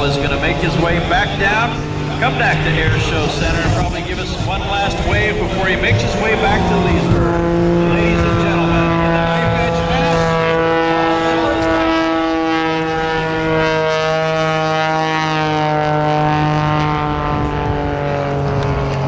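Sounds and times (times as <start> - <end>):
biplane engine and propeller droning: 0.0 - 19.0.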